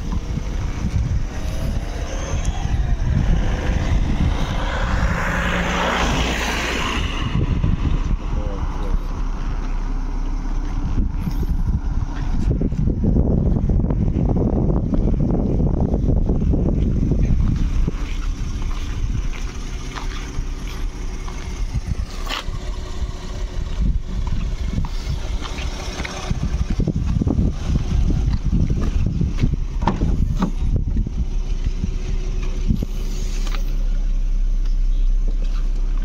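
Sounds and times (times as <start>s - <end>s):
car engine idling: 0.0s - 36.0s
gusty low rumble: 0.0s - 36.0s.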